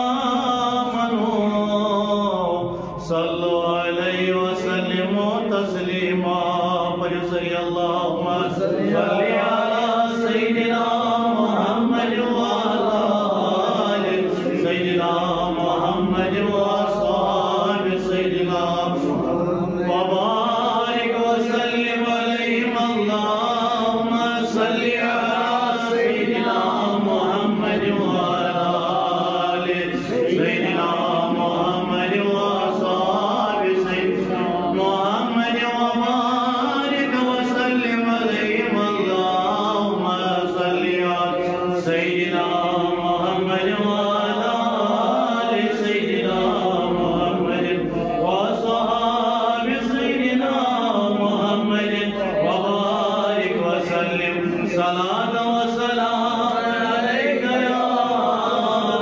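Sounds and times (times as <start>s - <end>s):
devotional chanting voice: 0.0s - 59.0s.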